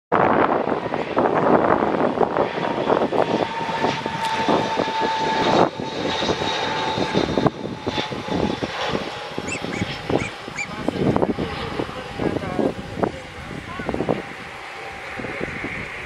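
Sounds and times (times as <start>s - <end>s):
jet engine rushing with whine: 0.1s - 16.0s
wind on microphone: 0.1s - 16.0s.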